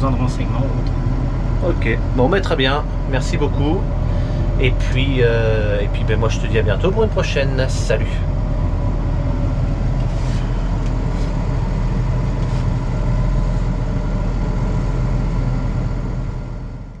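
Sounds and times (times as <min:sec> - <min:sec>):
tractor engine low drone: 0:00.0 - 0:17.0.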